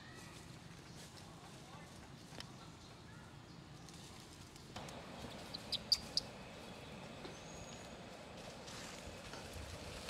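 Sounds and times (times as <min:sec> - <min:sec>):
forest background: 0:00.0 - 0:10.0.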